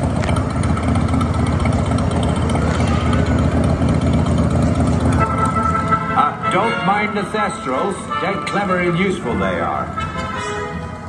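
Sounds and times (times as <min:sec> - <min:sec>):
roller coaster train rumbling: 0:00.0 - 0:11.0.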